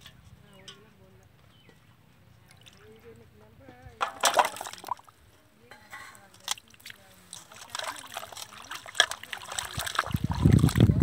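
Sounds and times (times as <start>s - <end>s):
water sloshing in steel basin: 0.0s - 3.3s, 3.9s - 11.0s.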